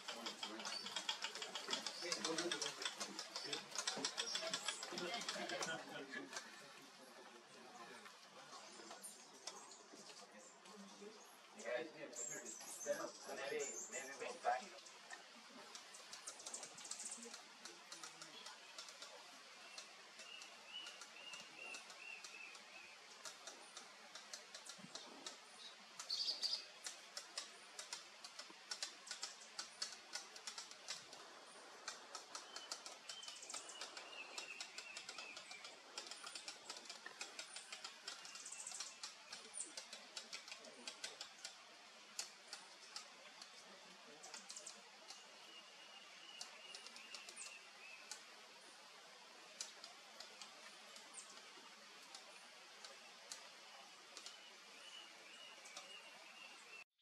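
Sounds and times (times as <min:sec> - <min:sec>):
light irregular clicks: 0:00.0 - 0:06.8, 0:08.0 - 0:10.9, 0:13.6 - 0:56.6.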